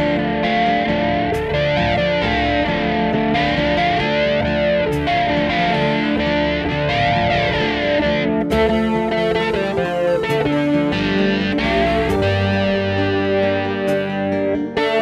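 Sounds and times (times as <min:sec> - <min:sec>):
backing track: 0:00.0 - 0:15.0
electric guitar with effects: 0:00.0 - 0:15.0.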